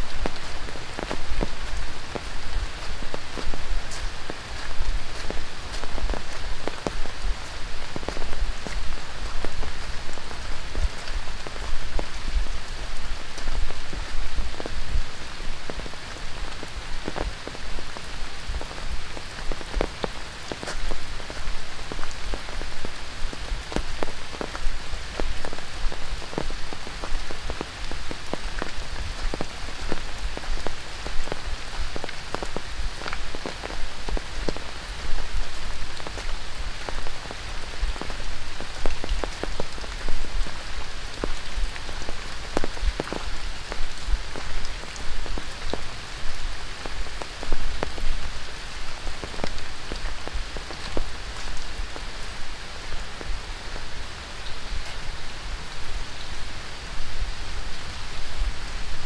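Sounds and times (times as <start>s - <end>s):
rain on foliage and gravel: 0.0s - 59.0s.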